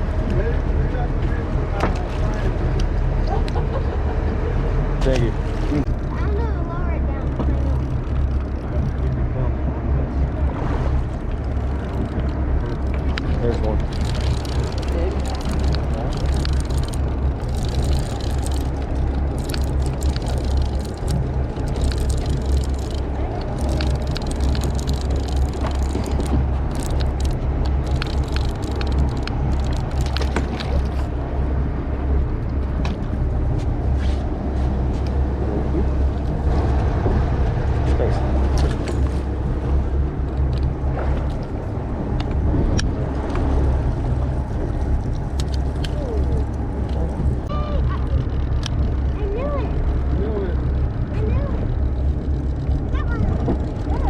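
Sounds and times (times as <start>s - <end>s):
boat engine low rumble: 0.0s - 54.0s.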